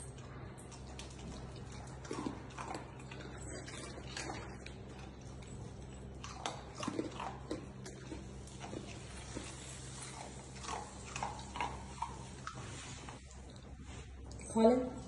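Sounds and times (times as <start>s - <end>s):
dog chewing and smacking: 0.0s - 14.5s
steady low hum: 0.0s - 15.0s.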